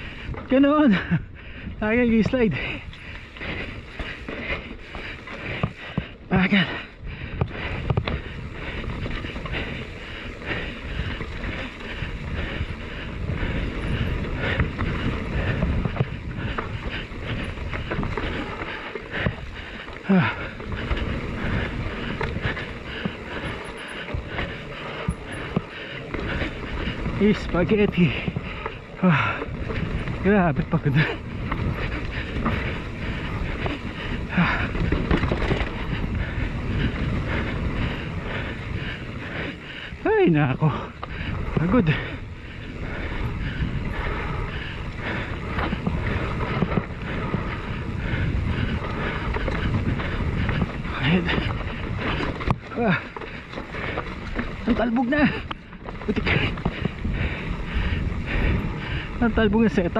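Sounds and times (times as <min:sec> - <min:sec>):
bike clattering over bumps: 0:00.0 - 0:59.9
wind rushing over microphone: 0:00.0 - 0:59.9.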